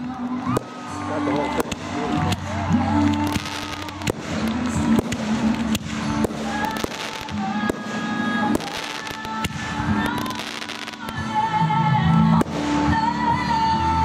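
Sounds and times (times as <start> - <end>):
music playing: 0.0 - 14.0.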